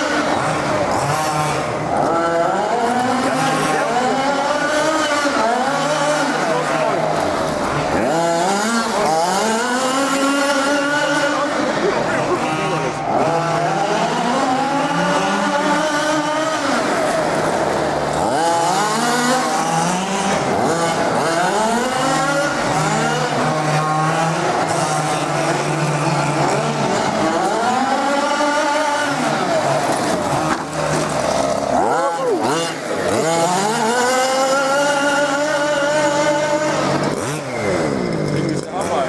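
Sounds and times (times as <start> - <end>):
rc car engines revving: 0.0 - 39.0.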